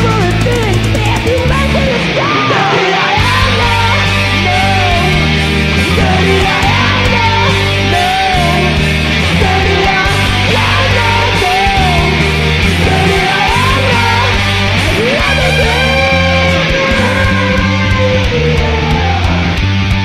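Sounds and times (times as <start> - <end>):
bending lead guitar phrase: 0.0 - 20.0
distorted electric guitars: 0.0 - 20.0
held bass notes: 0.0 - 20.0.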